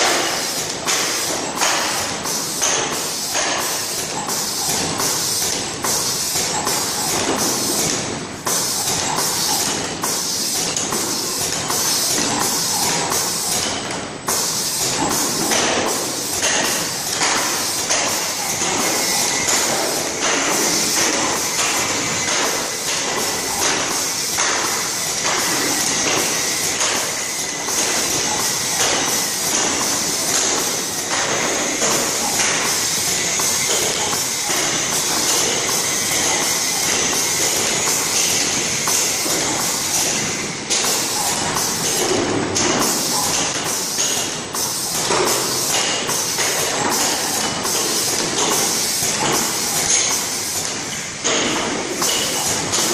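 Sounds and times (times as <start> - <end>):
regular machine clicking clatter: 0.0 - 52.9
steady machine noise: 0.0 - 52.9.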